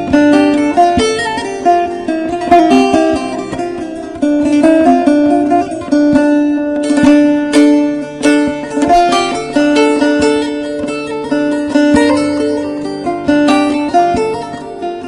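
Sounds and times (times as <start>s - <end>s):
plucked lute folk melody: 0.0s - 15.0s.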